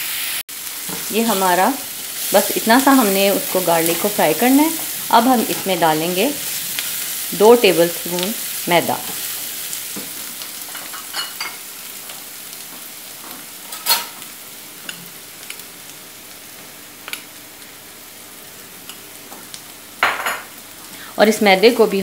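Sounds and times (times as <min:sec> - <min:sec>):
onion sizzling in hot oil: 0:00.0 - 0:22.0.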